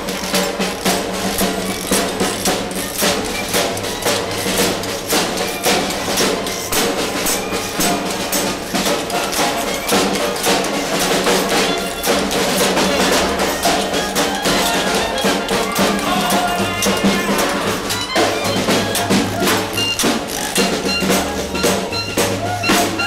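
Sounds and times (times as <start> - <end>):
brass horns: 0.0 - 23.0
snare drum beat: 0.0 - 23.0
tambourine: 0.0 - 23.0.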